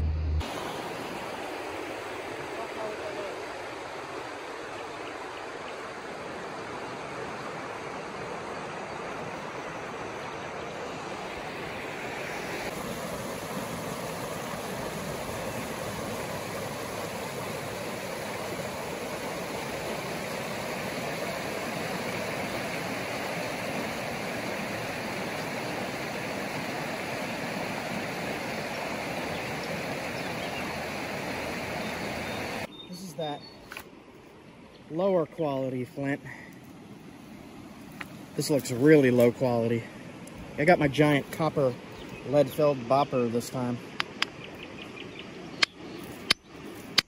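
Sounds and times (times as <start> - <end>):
creek water running: 0.4 - 47.0.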